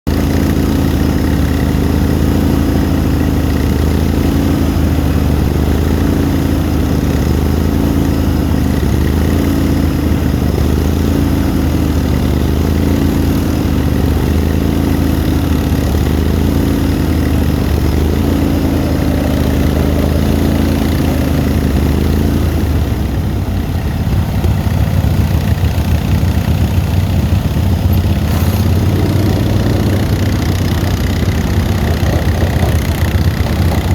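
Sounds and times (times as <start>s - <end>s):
lawn tractor engine running: 0.1s - 33.9s.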